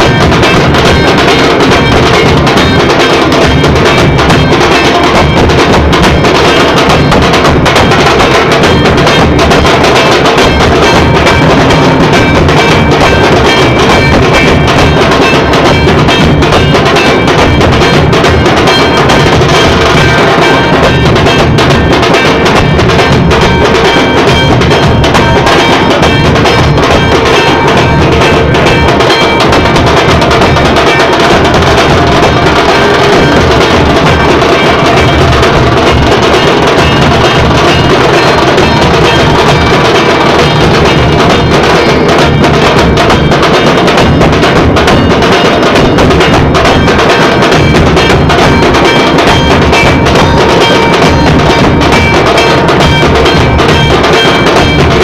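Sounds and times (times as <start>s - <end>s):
loud music with drum beat: 0.0s - 55.0s.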